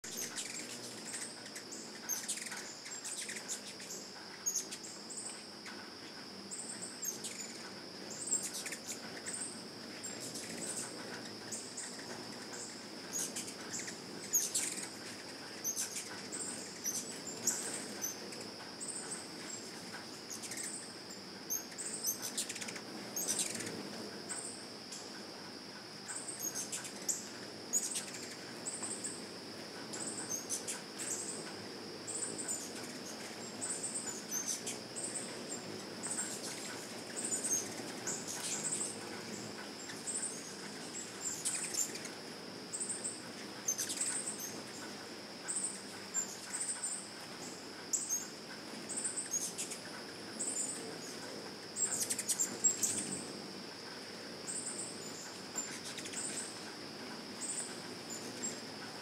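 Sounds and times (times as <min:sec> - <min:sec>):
high insect drone: 0:00.0 - 0:59.0
hummingbird wings whirring: 0:00.0 - 0:59.0
hummingbird chip calls: 0:00.1 - 0:05.8, 0:06.4 - 0:20.9, 0:21.5 - 0:25.0, 0:26.0 - 0:29.2, 0:29.9 - 0:47.0, 0:50.4 - 0:53.4, 0:54.5 - 0:56.6.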